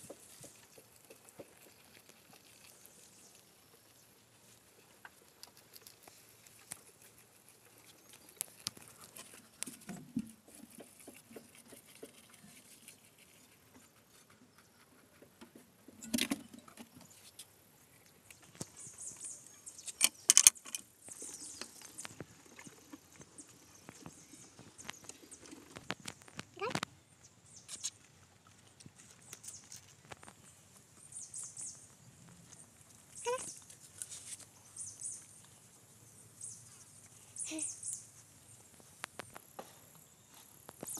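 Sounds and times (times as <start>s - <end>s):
rabbit chewing leaves: 0.0s - 40.9s.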